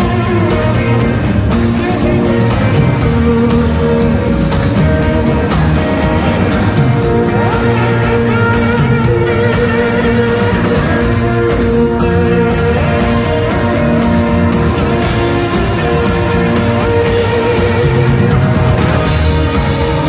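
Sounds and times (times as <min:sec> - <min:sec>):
bass: 0:00.0 - 0:20.0
drum beat: 0:00.0 - 0:20.0
electric guitars: 0:00.0 - 0:20.0.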